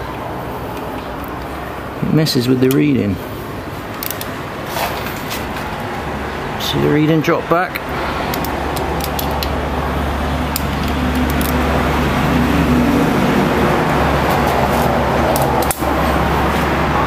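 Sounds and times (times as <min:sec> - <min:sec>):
steady rushing noise: 0:01.7 - 0:17.0.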